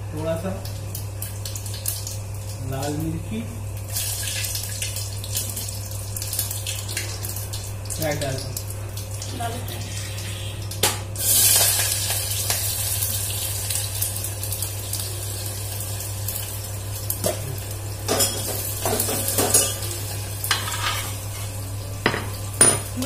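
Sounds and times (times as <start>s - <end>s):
spices sizzling in a pot: 0.0s - 23.0s
steady low hum: 0.0s - 23.0s.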